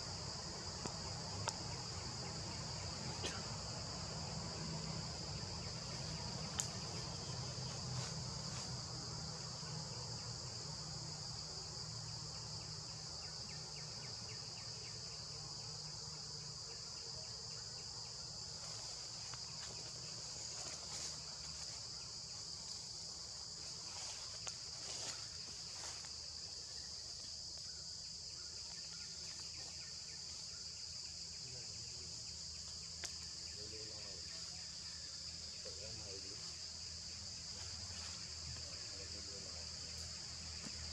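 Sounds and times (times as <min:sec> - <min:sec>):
insects buzzing: 0:00.0 - 0:40.9.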